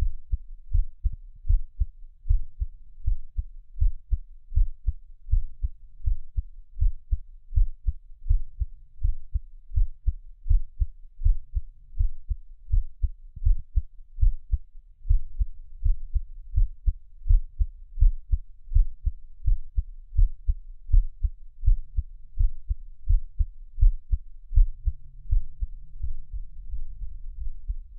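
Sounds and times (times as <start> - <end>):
heartbeat thumps: 0.0 - 27.9.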